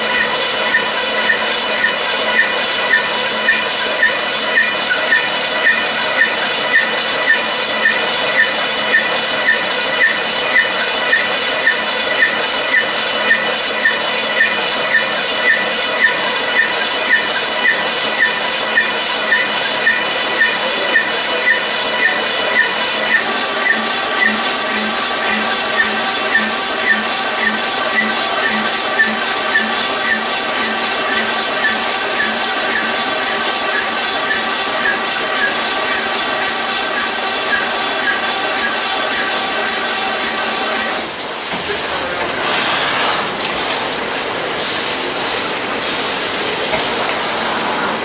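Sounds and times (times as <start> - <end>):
machine hissing: 0.0 - 48.0.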